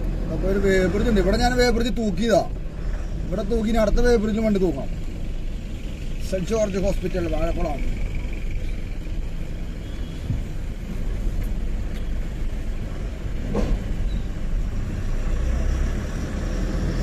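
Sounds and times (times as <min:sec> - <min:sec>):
truck diesel engine rumble: 0:00.0 - 0:17.0.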